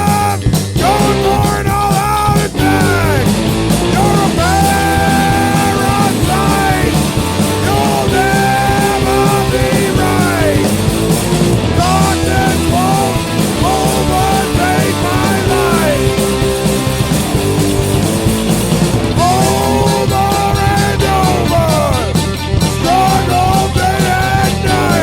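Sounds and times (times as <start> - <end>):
punk rock band playing: 0.0 - 25.0.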